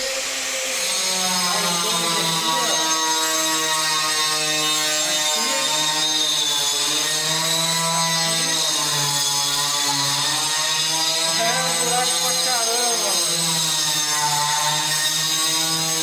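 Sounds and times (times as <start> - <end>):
power tool motor whining: 0.0 - 16.0.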